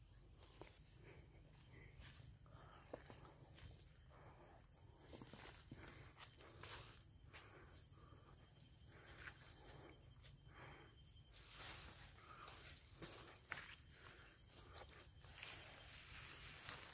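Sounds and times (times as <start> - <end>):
insect chirr: 0.0 - 16.9.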